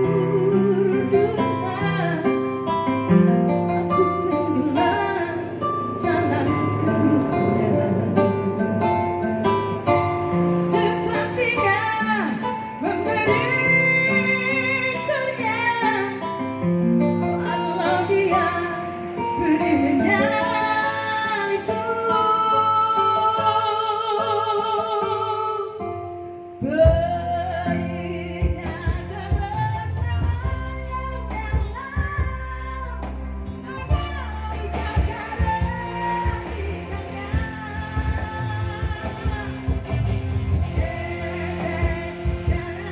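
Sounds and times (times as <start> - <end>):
pop song over speakers: 0.0 - 42.9.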